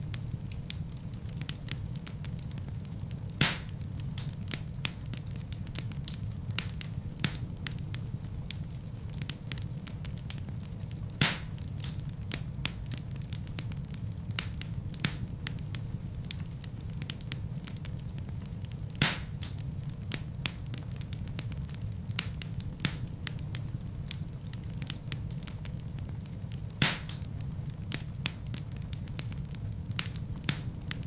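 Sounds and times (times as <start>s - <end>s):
loud fire pops: 0.0s - 31.0s
low rumble of flames: 0.0s - 31.0s
wood fire crackling: 0.0s - 31.0s.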